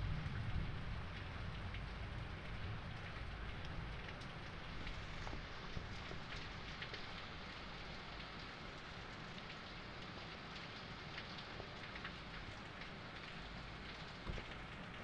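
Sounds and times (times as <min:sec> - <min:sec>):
raindrops ticking: 0:00.0 - 0:15.0
steady rain hiss: 0:00.0 - 0:15.0.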